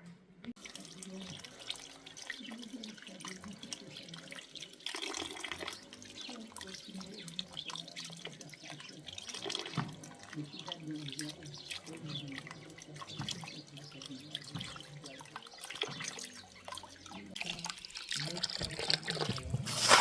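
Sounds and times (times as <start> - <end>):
water dripping: 0.5 - 20.0
running water splashing: 0.6 - 20.0.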